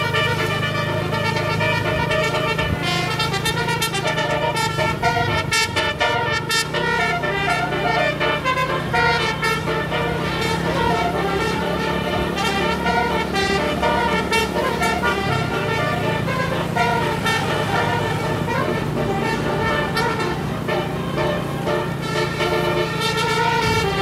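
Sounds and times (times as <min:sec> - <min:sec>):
bus engine humming: 0:00.0 - 0:24.0
bus horn playing a tune: 0:00.0 - 0:24.0.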